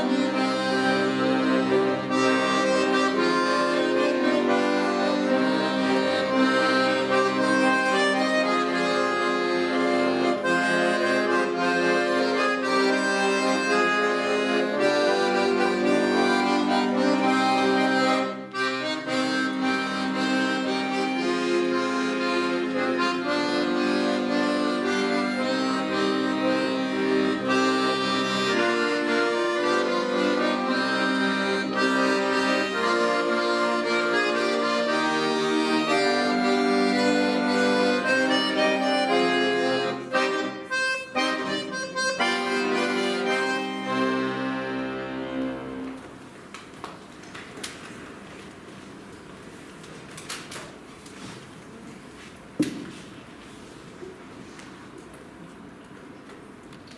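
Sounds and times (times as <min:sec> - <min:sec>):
accordion ensemble playing: 0:00.0 - 0:46.3.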